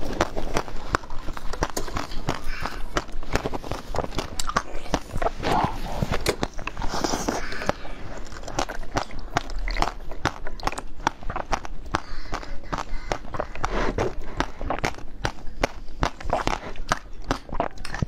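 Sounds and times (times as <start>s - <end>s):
crisp crunching chewing: 0.0s - 18.0s.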